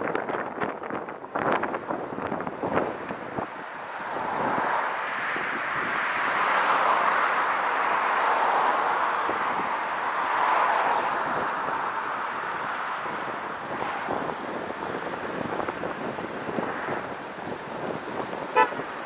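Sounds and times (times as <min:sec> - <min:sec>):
car road noise: 0:00.0 - 0:19.0
wind rushing over microphone: 0:00.0 - 0:19.0.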